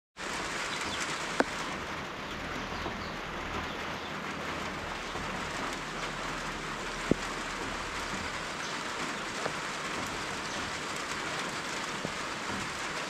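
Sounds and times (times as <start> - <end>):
rain falling: 0.2 - 13.0.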